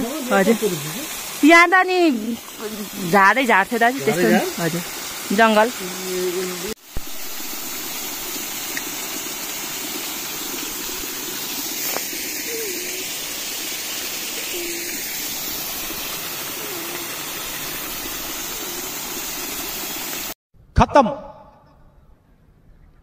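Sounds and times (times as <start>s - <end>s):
running water: 0.0s - 20.4s.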